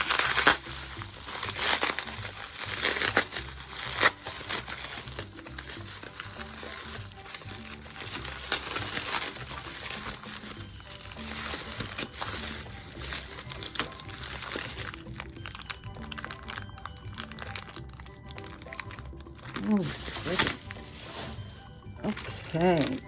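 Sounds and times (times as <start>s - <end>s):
background music: 0.0s - 23.0s
packaging crinkling and rustling: 0.0s - 23.0s.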